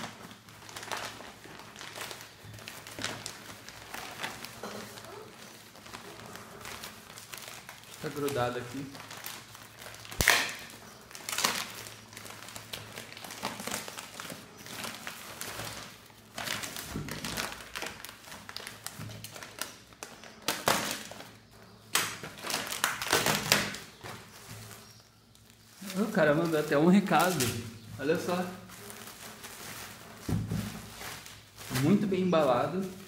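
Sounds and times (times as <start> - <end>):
plastic mailer and bubble wrap rustling: 0.0 - 33.0.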